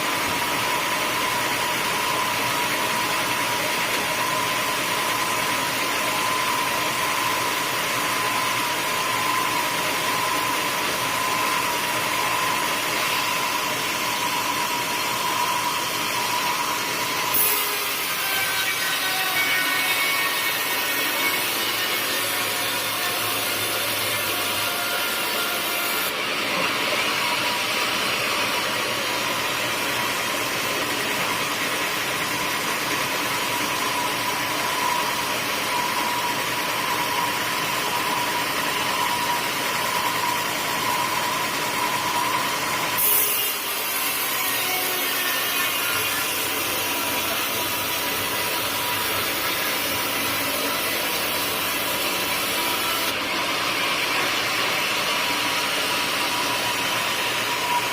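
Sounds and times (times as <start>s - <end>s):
saw whining cutting wood: 0.0s - 57.9s.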